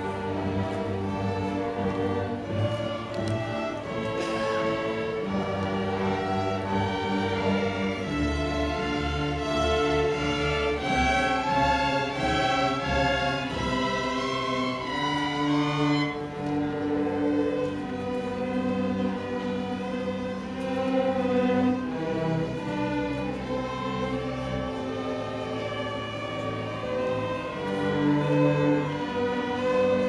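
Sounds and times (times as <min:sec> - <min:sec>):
string orchestra playing: 0:00.0 - 0:30.0.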